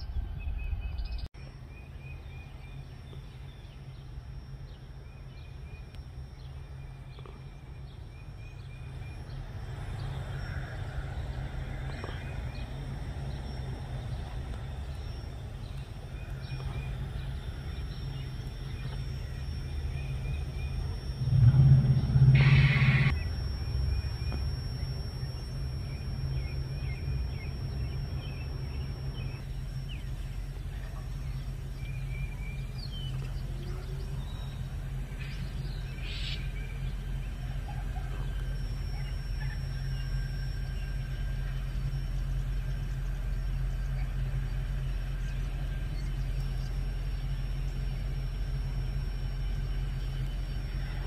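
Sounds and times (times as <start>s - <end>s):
birds chirping: 0.0s - 51.0s
diesel locomotives idling: 1.4s - 51.0s.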